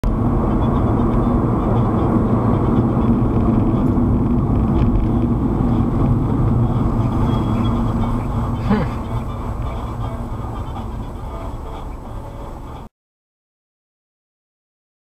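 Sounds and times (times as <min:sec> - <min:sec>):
car road and engine noise: 0:00.0 - 0:12.9.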